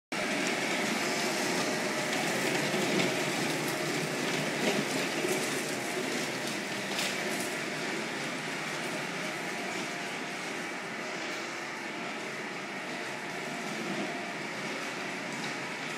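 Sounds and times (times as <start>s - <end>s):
wheels rolling on concrete: 0.2s - 15.9s.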